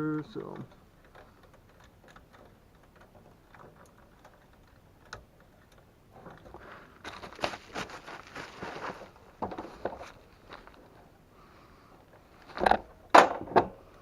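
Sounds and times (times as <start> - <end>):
clicking and rattling of wires: 0.0 - 11.2, 11.9 - 14.0.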